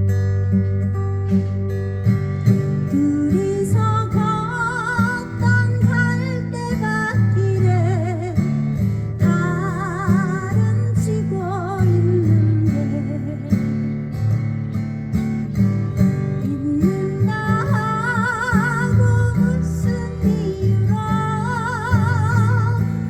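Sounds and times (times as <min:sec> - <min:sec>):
instrumental music with guitar and bass: 0:00.0 - 0:23.0.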